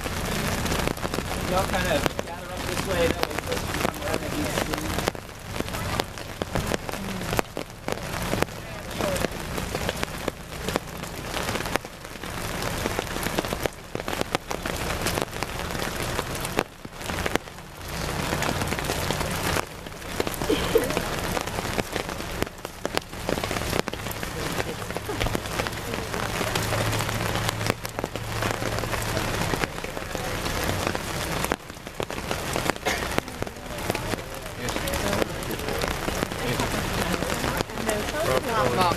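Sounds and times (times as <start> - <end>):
rain pattering on umbrellas: 0.0 - 38.9.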